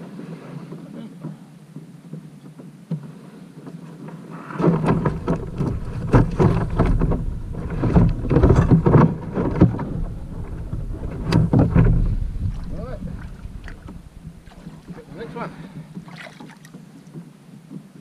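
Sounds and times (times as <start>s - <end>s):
knocks and scrapes on kayak hull: 0.0s - 18.0s.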